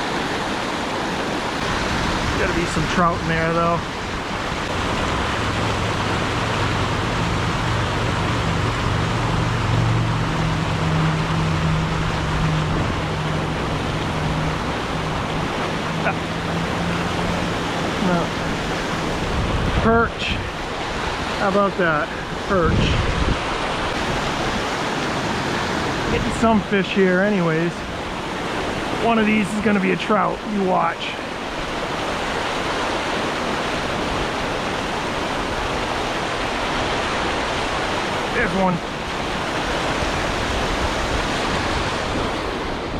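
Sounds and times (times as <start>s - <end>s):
brook water rushing: 0.0s - 42.9s.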